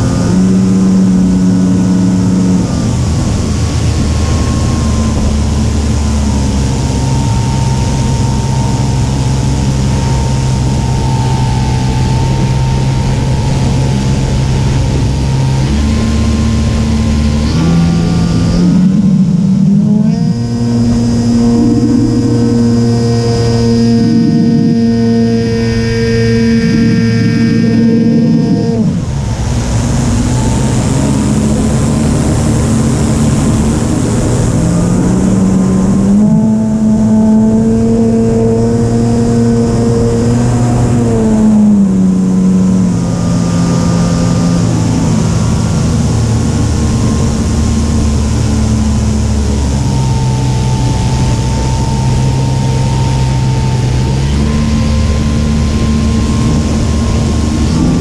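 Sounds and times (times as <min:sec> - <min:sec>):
model airplane motor running: 0:00.0 - 0:58.0
rushing noise: 0:00.0 - 0:58.0.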